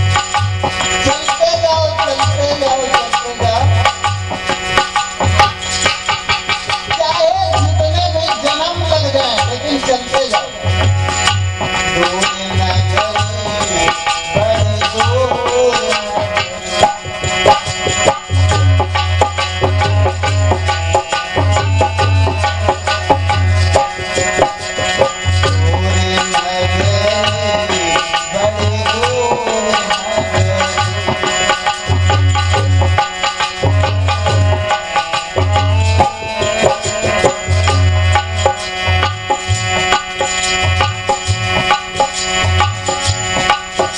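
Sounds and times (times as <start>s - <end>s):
sustained melody instrument: 0.0s - 43.9s
tabla drumming: 0.0s - 43.9s.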